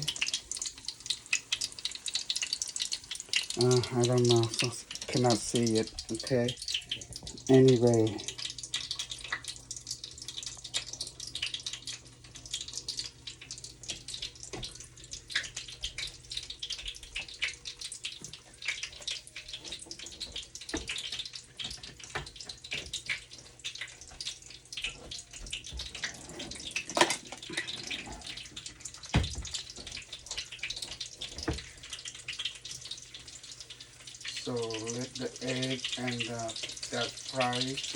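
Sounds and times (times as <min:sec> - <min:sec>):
food sizzling in hot oil: 0:00.0 - 0:37.9.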